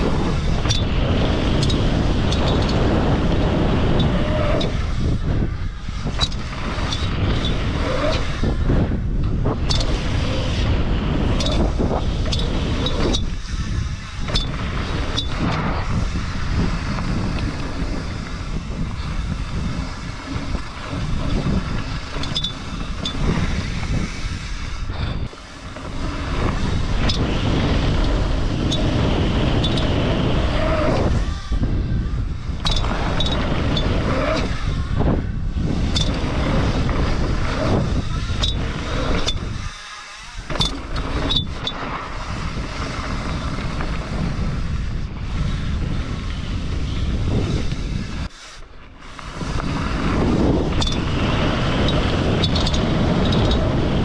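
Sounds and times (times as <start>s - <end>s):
bike chain slapping frame: 0.0s - 54.0s
bike tyres on loose dirt: 0.0s - 54.0s
wind on microphone: 0.0s - 54.0s.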